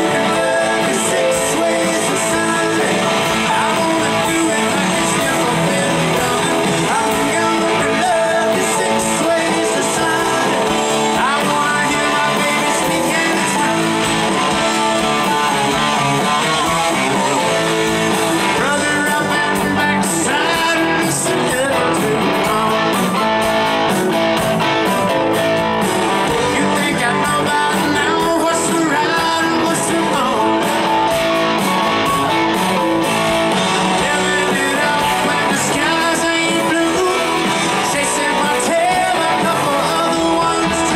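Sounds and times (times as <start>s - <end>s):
live rock band playing: 0.0s - 40.9s
man singing lead: 0.0s - 40.9s.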